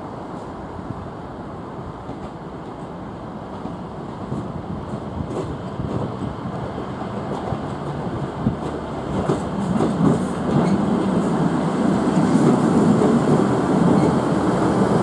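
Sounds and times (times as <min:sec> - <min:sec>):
diesel train engines running: 0:00.0 - 0:15.0.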